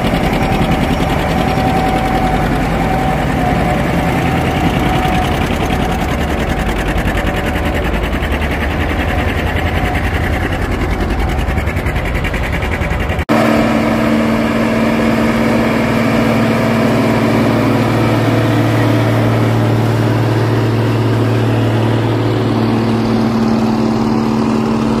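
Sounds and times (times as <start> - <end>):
steady engine drone: 0.0 - 25.0
tractor engine rumble: 0.0 - 25.0.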